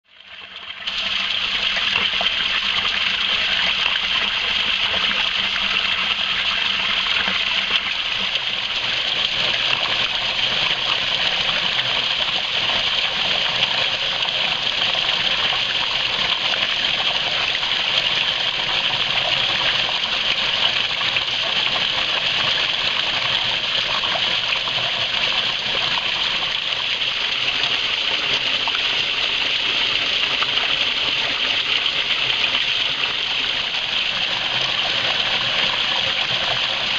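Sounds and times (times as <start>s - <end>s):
creek water rushing over rocks: 0.1s - 36.9s.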